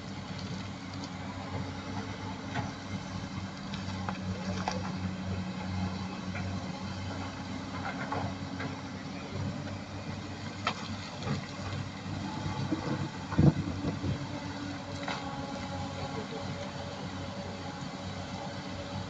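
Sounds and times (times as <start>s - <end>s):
excavator diesel engines running: 0.0s - 19.0s.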